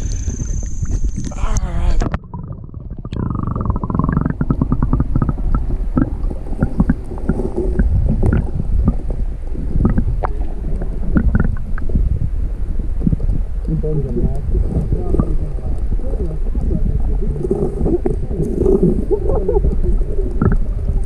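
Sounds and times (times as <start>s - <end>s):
muffled underwater rumble: 0.0s - 21.0s
small underwater clicks and knocks: 2.0s - 12.1s, 13.0s - 21.0s.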